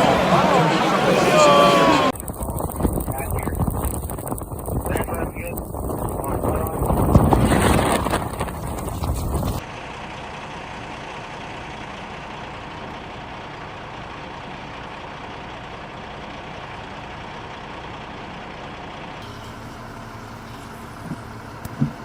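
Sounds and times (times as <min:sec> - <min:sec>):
motor vehicle running with whine: 0:00.0 - 0:22.0.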